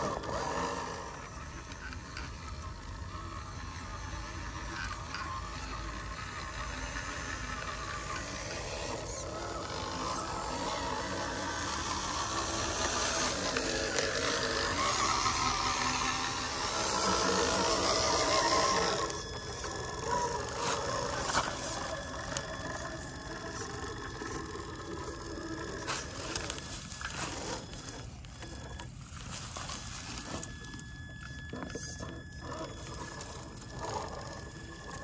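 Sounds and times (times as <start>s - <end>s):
toy truck motor whirring: 0.0s - 35.0s.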